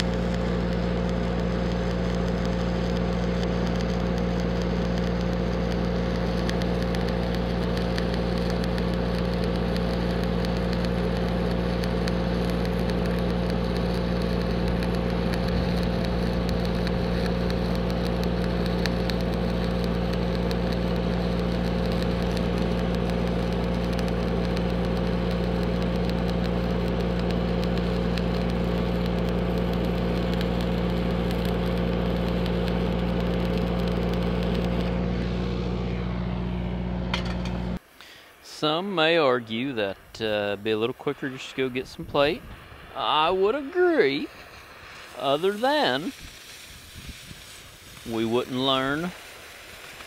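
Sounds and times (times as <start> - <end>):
welder engine drone: 0.0 - 50.0
welding arc crackling: 0.0 - 50.0.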